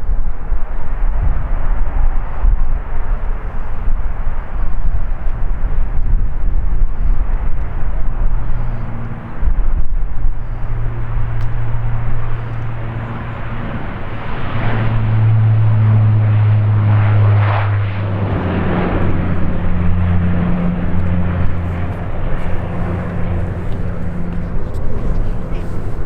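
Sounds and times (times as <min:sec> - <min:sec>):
turboprop propeller drone: 0:00.0 - 0:26.0.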